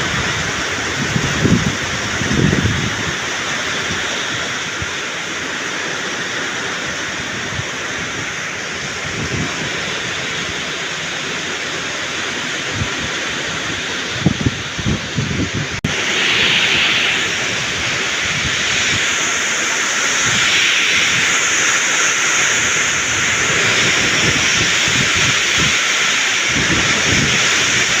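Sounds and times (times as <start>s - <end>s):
heavy rain pouring: 0.0s - 28.0s
wind buffeting microphone: 0.0s - 28.0s.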